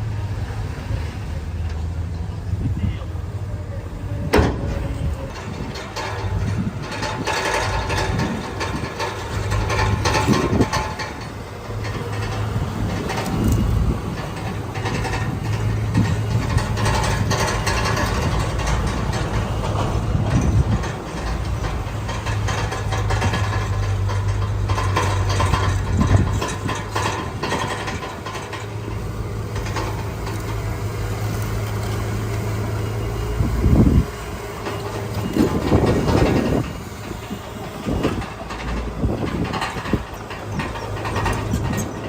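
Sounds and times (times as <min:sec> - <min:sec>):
diesel machinery engine running: 0:00.0 - 0:42.0
metallic clanking: 0:04.2 - 0:42.0.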